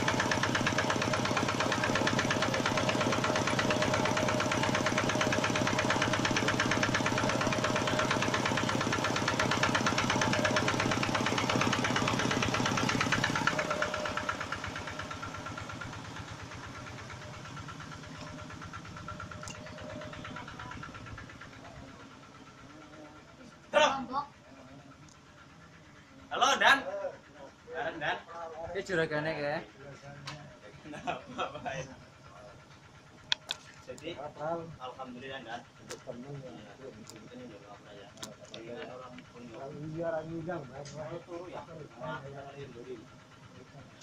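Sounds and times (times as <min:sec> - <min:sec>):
generator engine knocking: 0:00.0 - 0:44.0.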